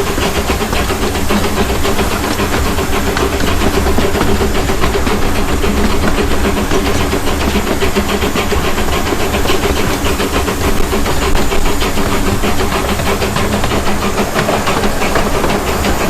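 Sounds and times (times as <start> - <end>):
steam hissing: 0.0 - 16.0
steam locomotive exhaust beat: 0.0 - 16.0.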